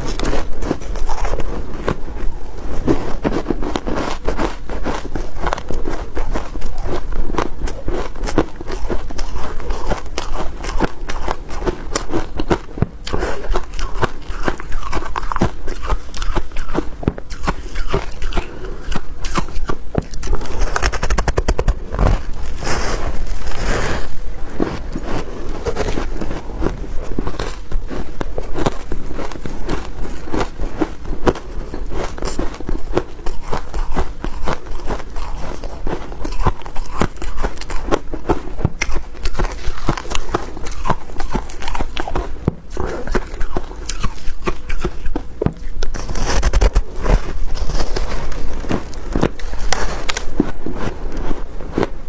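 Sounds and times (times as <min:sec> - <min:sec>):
person chewing crunchy ice: 0:00.0 - 0:52.0.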